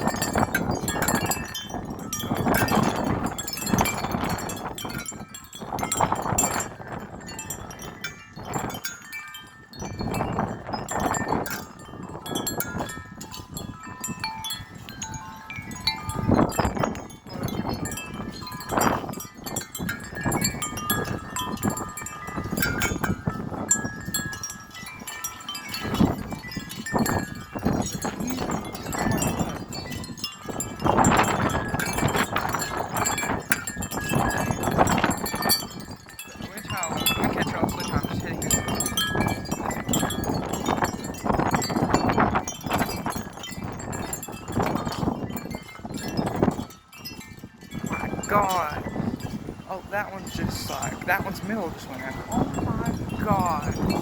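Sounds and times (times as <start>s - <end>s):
metal wind chimes clanging: 0.0s - 54.0s
wind gusts on microphone: 0.0s - 54.0s.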